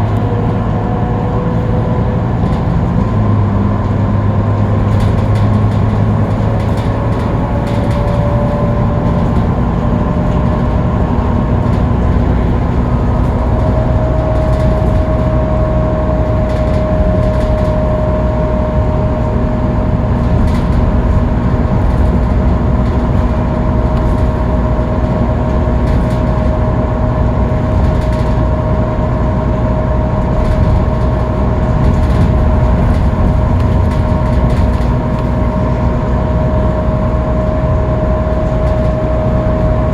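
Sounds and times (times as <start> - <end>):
bus diesel engine drone: 0.0 - 39.9
road rumble: 0.0 - 39.9.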